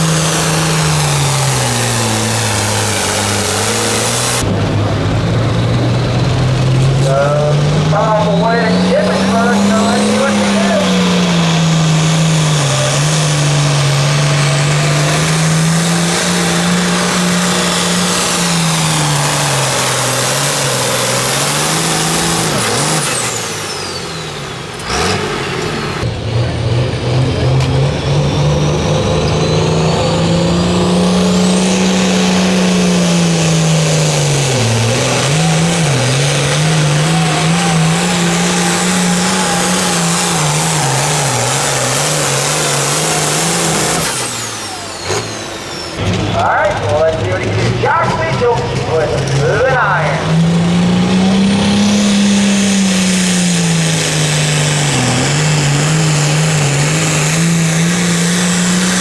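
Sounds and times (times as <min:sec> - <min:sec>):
sharp engine crack: 0:00.0 - 0:26.2, 0:27.1 - 0:59.0
engine running hard under load: 0:00.0 - 0:59.0.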